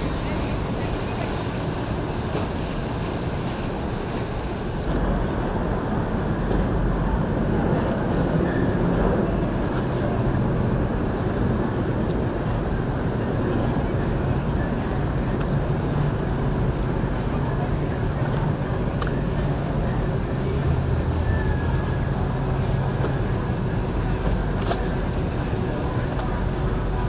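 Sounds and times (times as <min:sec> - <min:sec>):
boat motors droning: 0:00.0 - 0:27.0
water wash: 0:00.0 - 0:27.0.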